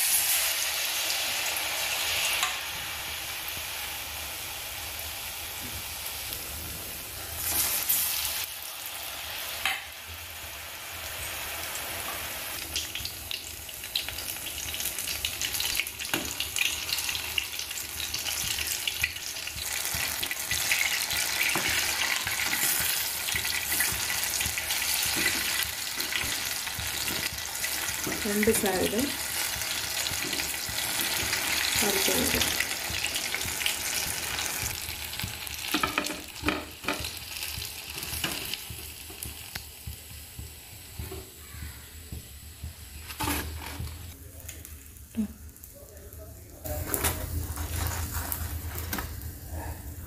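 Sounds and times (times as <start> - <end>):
deep-frying sizzle and crackling: 0.0 - 50.0.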